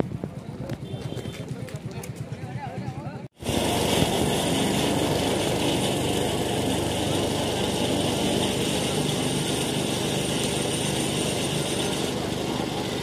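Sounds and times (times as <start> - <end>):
outdoor crowd hubbub: 0.0 - 13.0.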